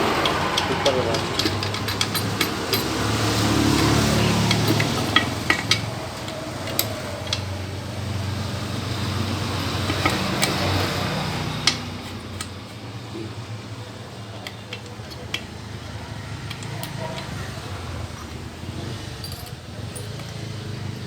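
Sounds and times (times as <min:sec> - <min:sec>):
metal tools clinking: 0:00.0 - 0:13.5, 0:14.1 - 0:21.0.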